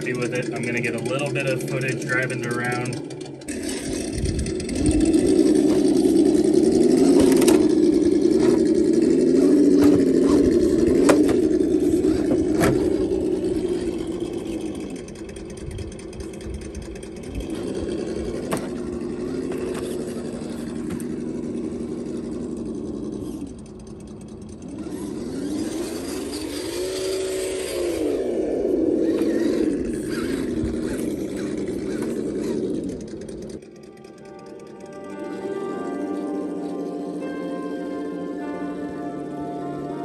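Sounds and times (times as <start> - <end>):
simulated engine noise from speaker: 0.0 - 40.0.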